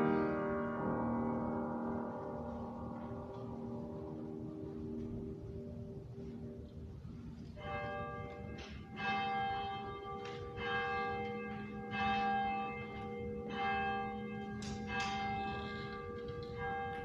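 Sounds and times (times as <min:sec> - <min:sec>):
church bell ringing: 0:00.0 - 0:17.0.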